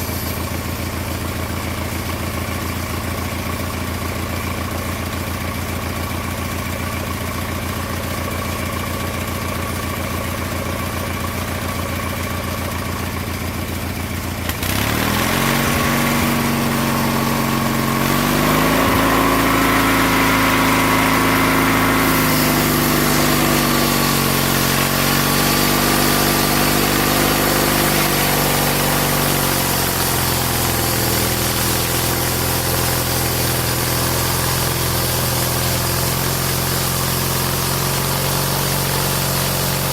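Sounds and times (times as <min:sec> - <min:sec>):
small lawn mower engine: 0:00.0 - 0:39.9.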